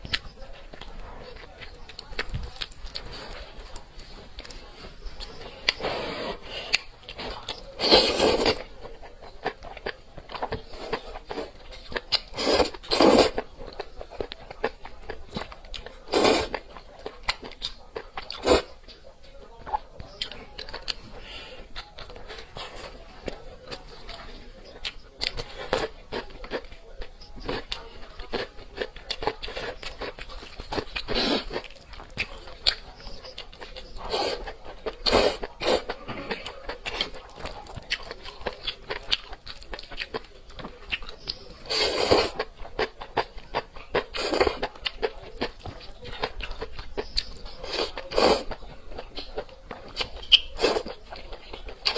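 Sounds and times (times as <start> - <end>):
chewing and crunching: 0.0 - 51.9.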